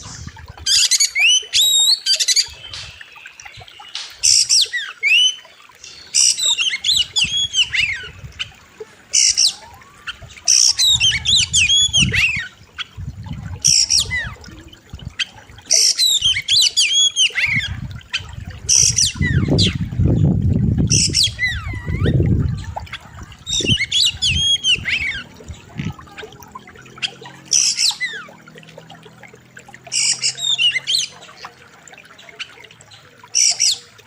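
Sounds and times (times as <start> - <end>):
songbird whistled song: 0.1 - 20.2, 20.9 - 28.5, 29.9 - 34.0.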